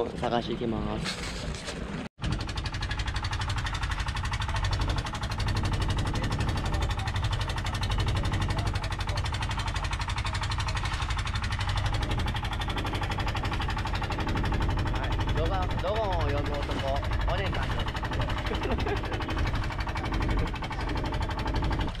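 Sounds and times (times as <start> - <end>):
boat engine pulsing: 1.8 - 22.0
water rushing along hull: 2.2 - 22.0.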